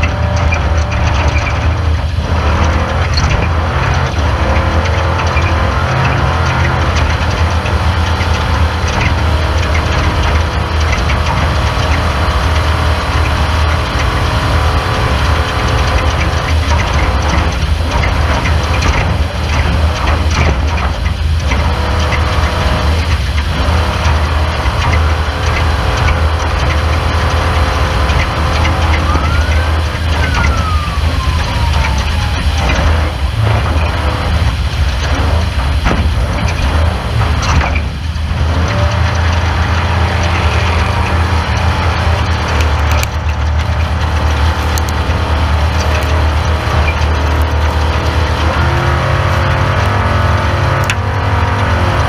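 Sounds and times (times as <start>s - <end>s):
race car engine droning: 0.0s - 52.0s
rattling clicks and knocks: 0.0s - 52.0s.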